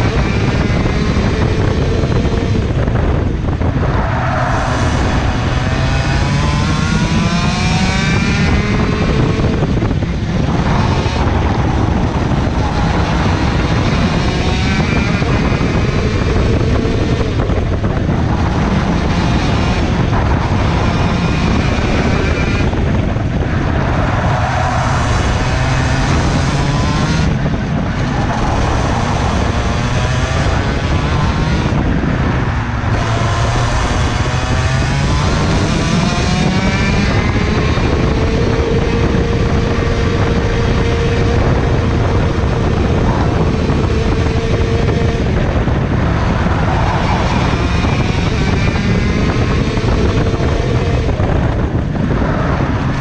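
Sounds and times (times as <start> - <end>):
kart engine at racing speed: 0.0 - 53.0.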